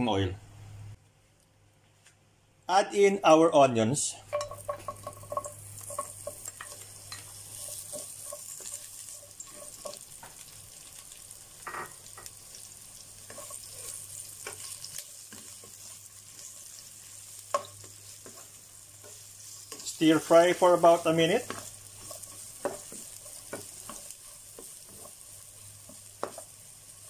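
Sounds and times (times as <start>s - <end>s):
onions sizzling in a frying pan: 4.3s - 27.0s.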